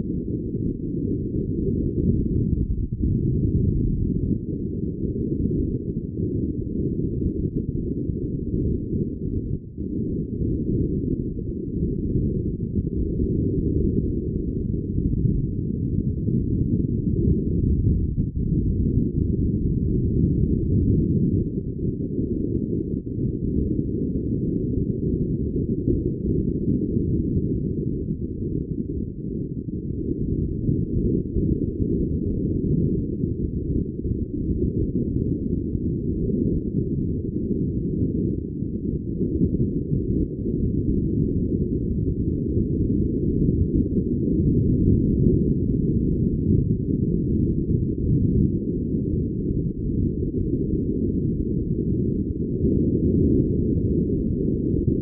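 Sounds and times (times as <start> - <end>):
muffled wind and water rumble: 0.0 - 55.0.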